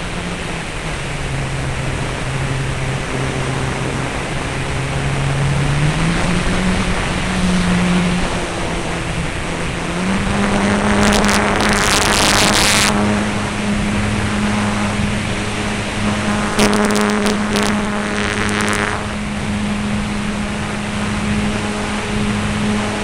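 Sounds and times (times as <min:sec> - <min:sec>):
crackling bursts: 0:00.0 - 0:23.0
model airplane motor: 0:00.0 - 0:23.0
rush of air: 0:00.0 - 0:23.0.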